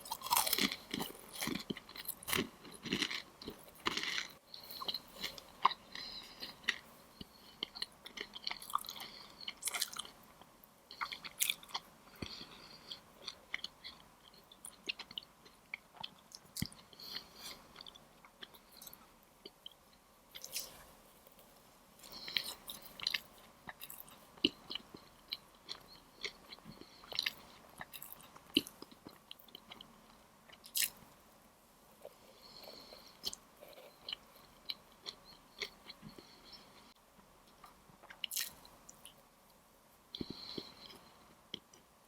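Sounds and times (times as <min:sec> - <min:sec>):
crunchy chewing of pastries: 0:00.0 - 0:31.3, 0:32.0 - 0:39.2, 0:40.1 - 0:42.0.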